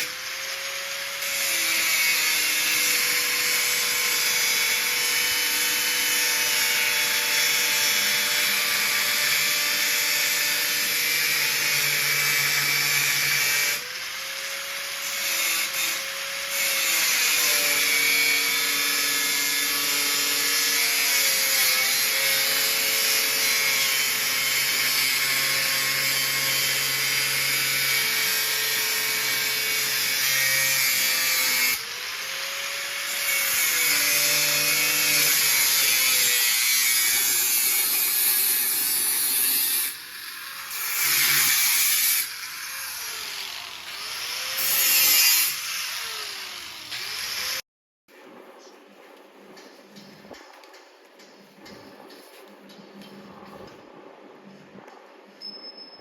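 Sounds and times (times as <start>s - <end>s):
angle grinder grinding steel: 0.0s - 47.6s.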